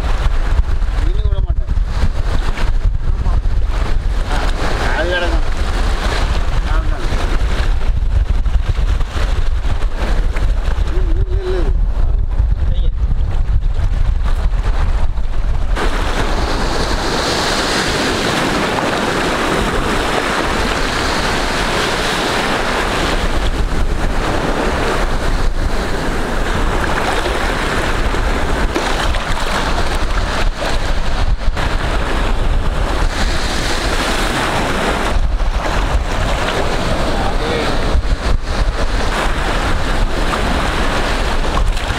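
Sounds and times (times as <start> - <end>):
sea surf breaking: 0.0 - 12.7, 13.4 - 41.9
wind buffeting microphone: 0.0 - 41.9.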